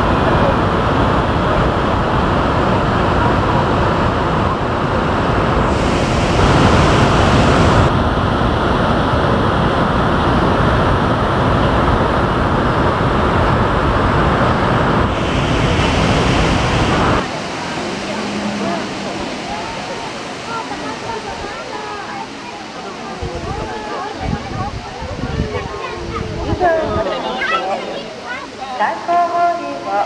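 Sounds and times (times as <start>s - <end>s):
water jets crashing into pool: 0.0s - 28.8s.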